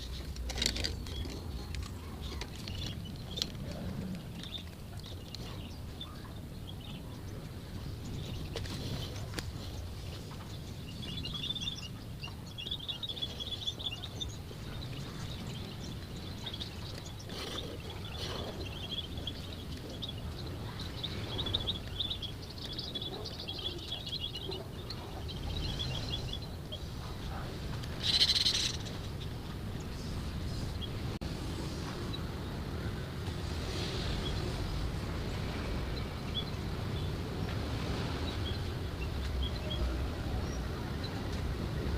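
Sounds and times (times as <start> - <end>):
birds chirping in trills: 0.0 - 31.2, 31.8 - 41.8.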